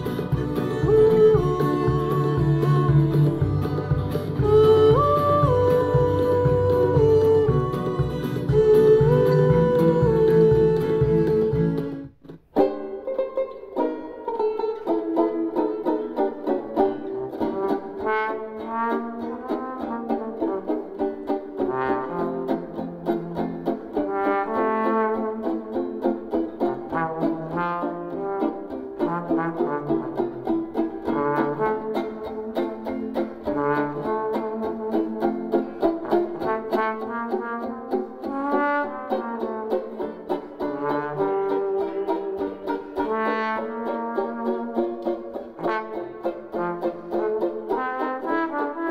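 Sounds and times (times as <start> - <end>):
instrumental music from speaker: 0.0 - 48.9.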